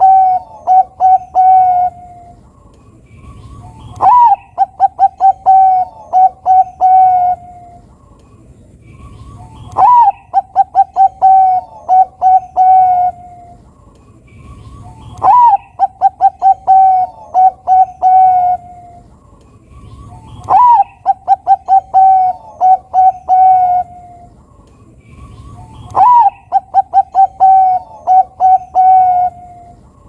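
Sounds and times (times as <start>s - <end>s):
dove cooing song: 0.0s - 2.5s, 3.1s - 8.0s, 8.9s - 13.7s, 14.3s - 19.1s, 19.7s - 30.0s.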